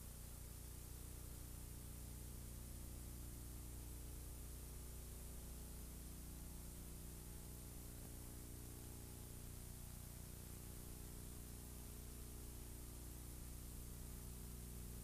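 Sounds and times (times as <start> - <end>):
recording hiss: 0.0 - 15.0
steady hum: 0.0 - 15.0.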